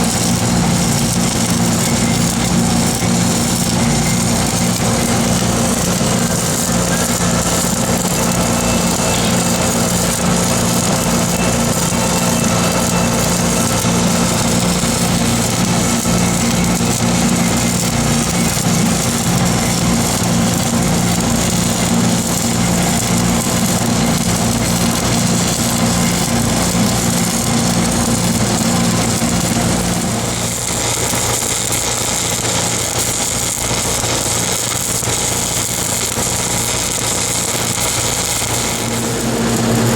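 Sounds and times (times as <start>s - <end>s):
welding arc crackling hiss: 0.0s - 39.9s
welding machine engine running: 0.0s - 39.9s.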